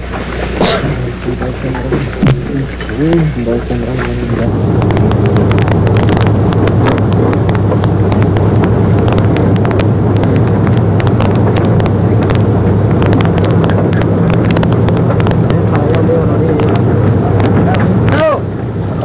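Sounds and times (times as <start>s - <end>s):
truck engine idling: 0.0s - 19.0s
sharp crackling clicks: 0.1s - 18.7s.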